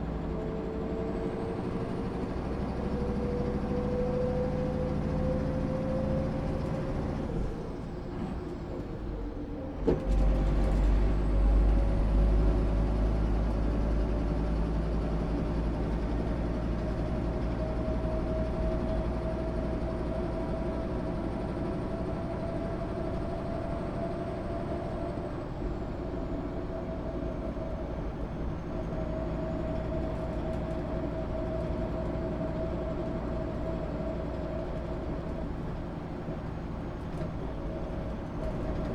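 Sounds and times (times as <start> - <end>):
bus engine rumble with whine: 0.0 - 38.9.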